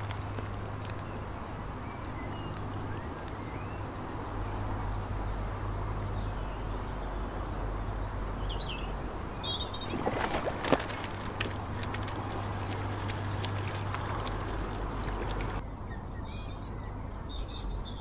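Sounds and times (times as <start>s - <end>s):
low background rumble: 0.0s - 15.6s
small birds chirping: 0.0s - 15.6s.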